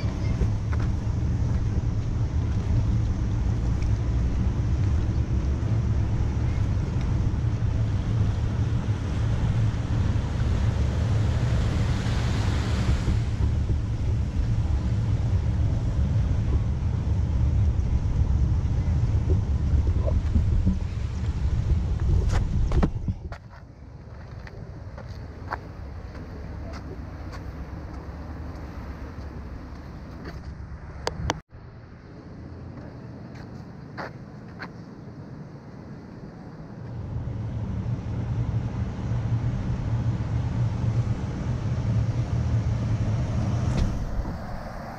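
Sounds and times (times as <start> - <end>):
wind buffeting microphone: 0.0 - 31.4, 37.0 - 44.9
outdoor street hum: 0.0 - 44.9.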